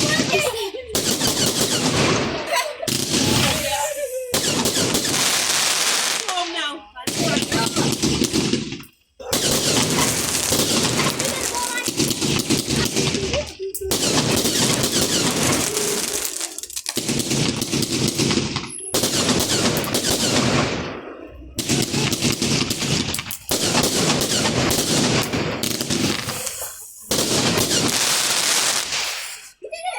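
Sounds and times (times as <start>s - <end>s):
firework cake bangs: 0.0s - 6.4s, 7.0s - 29.4s.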